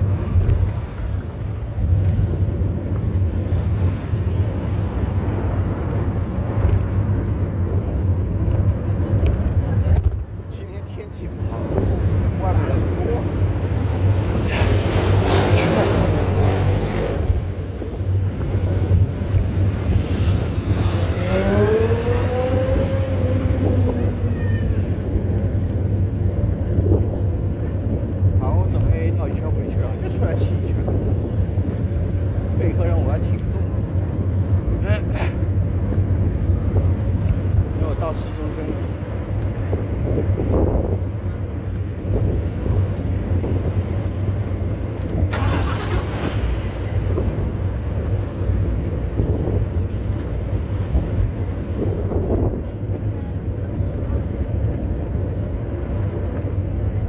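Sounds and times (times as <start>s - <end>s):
road and traffic rumble: 0.0s - 57.0s
wind buffeting microphone: 0.0s - 57.0s.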